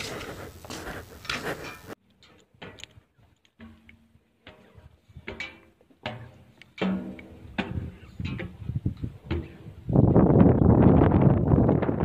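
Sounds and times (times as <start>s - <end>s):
footsteps on metal stairs: 0.0s - 9.8s.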